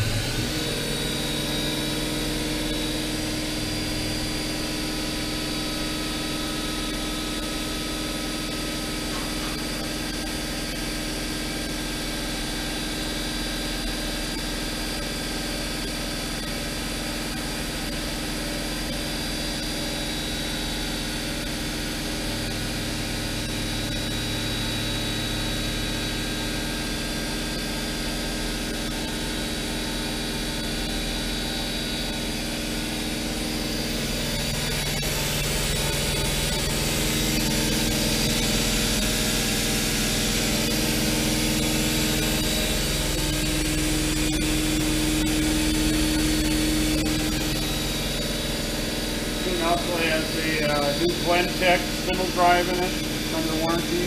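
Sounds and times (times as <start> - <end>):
low machine hum: 0.0 - 54.0
machining center hum and whine: 0.0 - 54.0.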